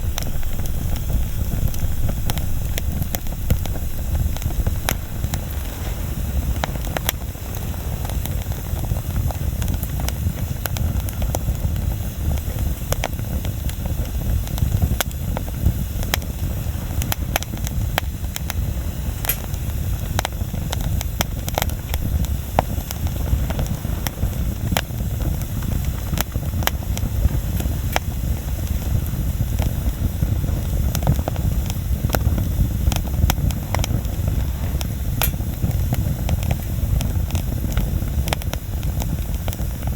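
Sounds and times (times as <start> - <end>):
low rumble: 0.0 - 10.6, 14.7 - 39.9
bonfire crackling and popping: 0.0 - 39.9.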